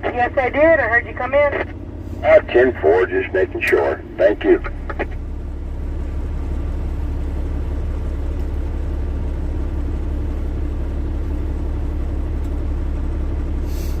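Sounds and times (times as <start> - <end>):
road noise: 0.0 - 14.0
truck engine droning: 0.0 - 14.0.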